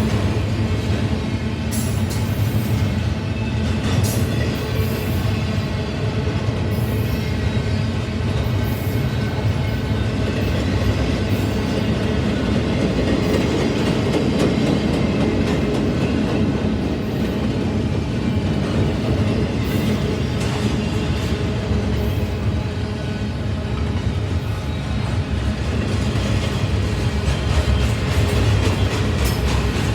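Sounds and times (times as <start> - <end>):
freight train rumbling: 0.0 - 29.9.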